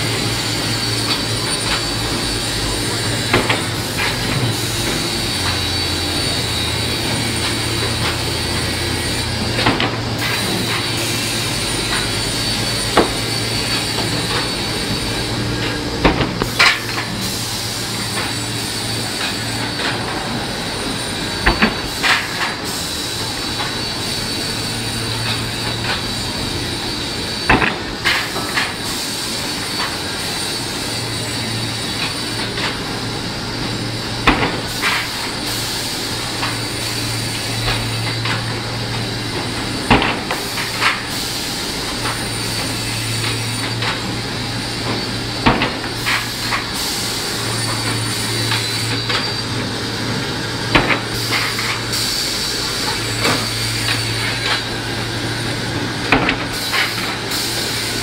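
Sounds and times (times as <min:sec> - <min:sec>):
saw machine whining: 0:00.0 - 0:58.0.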